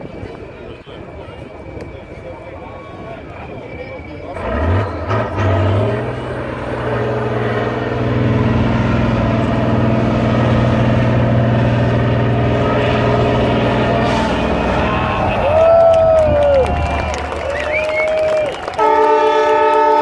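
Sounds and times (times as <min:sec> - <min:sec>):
truck engine running hard: 0:00.0 - 0:20.0.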